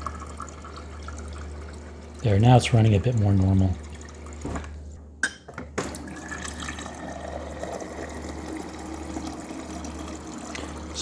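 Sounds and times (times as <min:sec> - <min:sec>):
water running into a glass: 0:00.0 - 0:04.5, 0:05.8 - 0:11.0.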